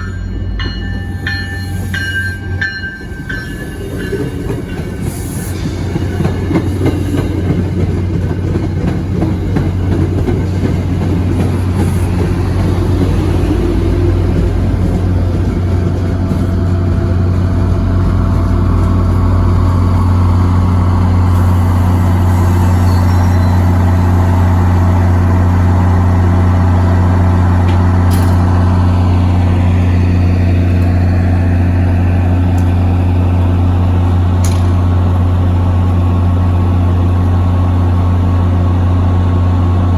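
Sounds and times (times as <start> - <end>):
diesel locomotive engine humming: 0.0 - 39.9.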